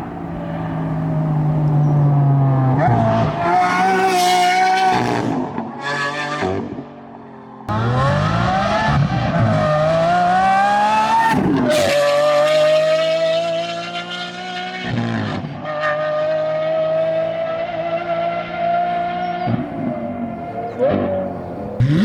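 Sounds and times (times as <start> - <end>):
sports car engine accelerating: 0.0 - 22.0.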